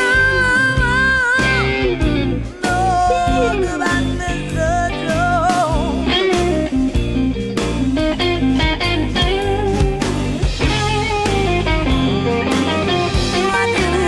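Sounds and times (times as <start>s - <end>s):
bass guitar: 0.0s - 14.0s
electric guitar lead: 0.0s - 14.0s
steady drum beat: 0.0s - 14.0s.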